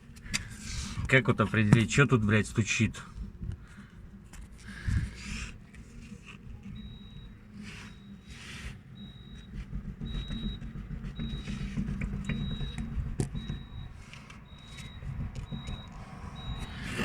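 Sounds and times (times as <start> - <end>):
suspension knocks and rattles: 0.0 - 17.0.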